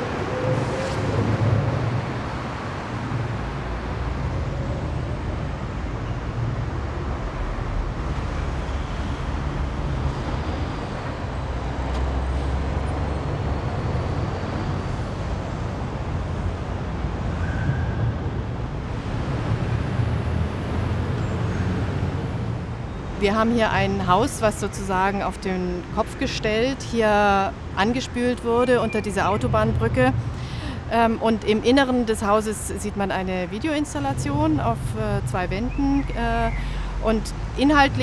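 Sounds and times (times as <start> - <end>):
traffic rumble overhead: 0.0 - 38.0.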